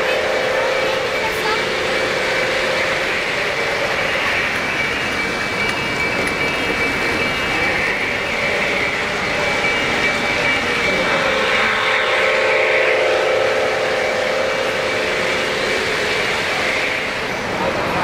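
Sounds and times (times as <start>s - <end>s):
model trains rolling on track: 0.0s - 18.0s.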